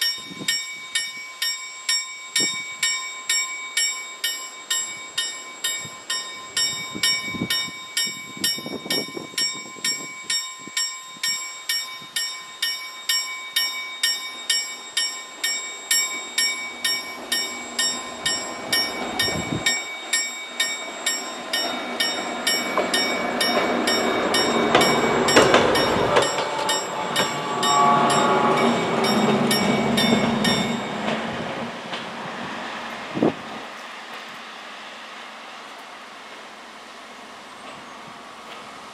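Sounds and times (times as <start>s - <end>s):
level-crossing warning bell ringing: 0.0s - 31.8s
train wheels and engine rumbling: 0.0s - 38.9s.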